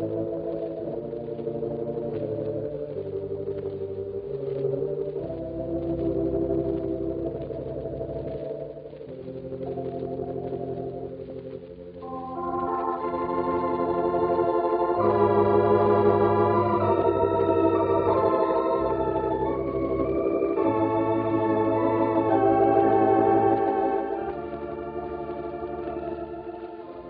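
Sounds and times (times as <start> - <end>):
organ playing chords: 0.0 - 27.0.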